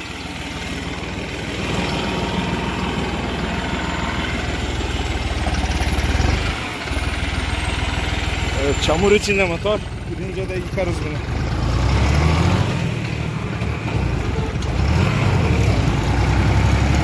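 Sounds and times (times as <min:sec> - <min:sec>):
tractor diesel engine rumbling: 0:00.0 - 0:17.0.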